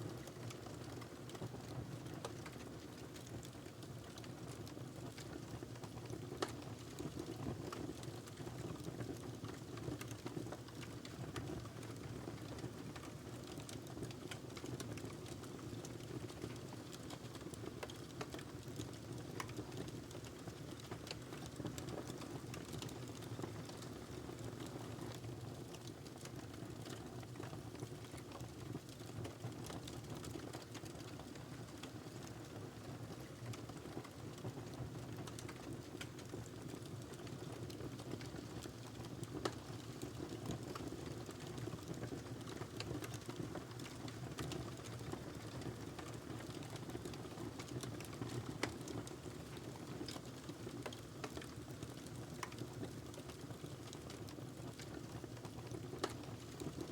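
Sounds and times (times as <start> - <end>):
fire crackling in a fireplace: 0.0 - 56.9.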